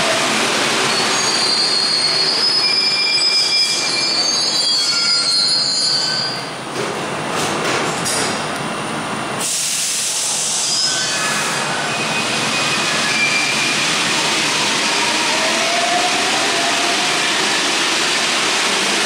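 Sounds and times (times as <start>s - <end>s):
train hissing at platform: 0.0s - 7.3s, 9.0s - 19.0s
high train squeal: 0.7s - 6.6s, 9.4s - 19.0s.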